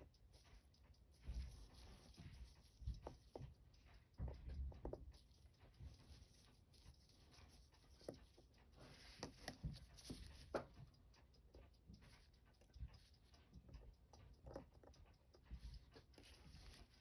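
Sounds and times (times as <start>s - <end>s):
small tools clicking and tapping: 0.0s - 17.0s.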